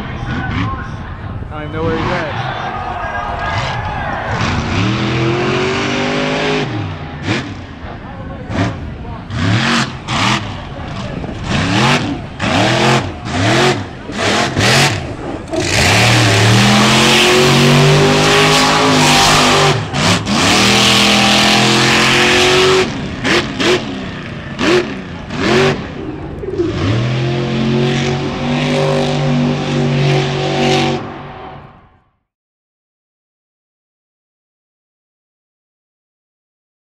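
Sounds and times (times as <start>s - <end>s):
monster truck engine revving: 0.0s - 1.2s, 1.8s - 31.9s.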